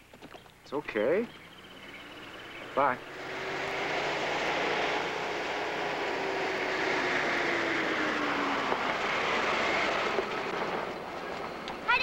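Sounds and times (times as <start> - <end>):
car engine running: 0.8 - 12.0.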